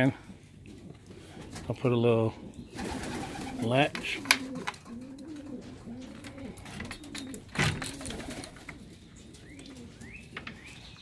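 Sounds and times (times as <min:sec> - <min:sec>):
pigeons cooing: 0:00.2 - 0:11.0.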